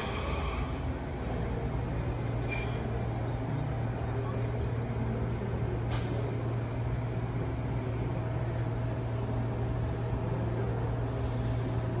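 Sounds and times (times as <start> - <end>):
train equipment hum: 0.0 - 12.0.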